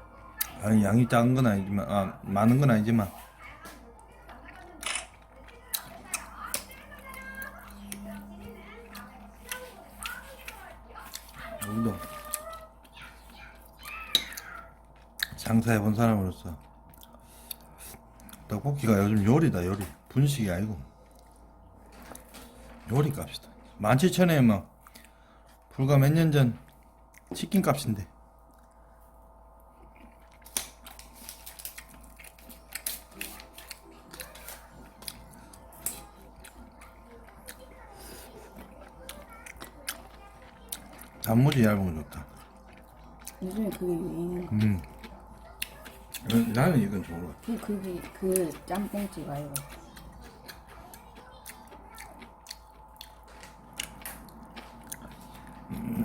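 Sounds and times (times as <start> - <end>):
faint steady hum: 0.0 - 56.0
person chewing food: 0.3 - 24.0, 24.7 - 56.0.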